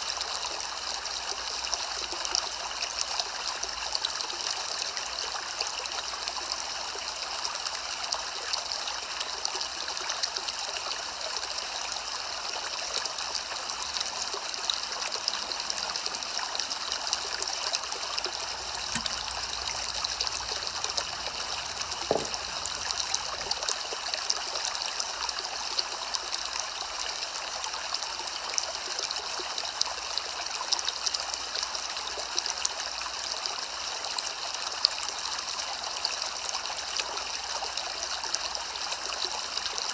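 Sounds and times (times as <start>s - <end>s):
steady soft rain: 0.0s - 39.9s.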